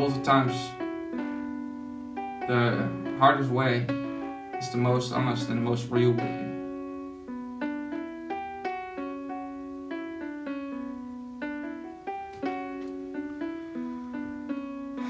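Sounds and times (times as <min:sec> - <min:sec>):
piano single notes: 0:00.0 - 0:15.0.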